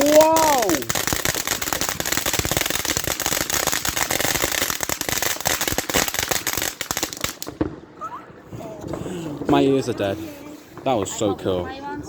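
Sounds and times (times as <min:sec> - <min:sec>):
fireworks cracking and popping: 0:00.0 - 0:11.7.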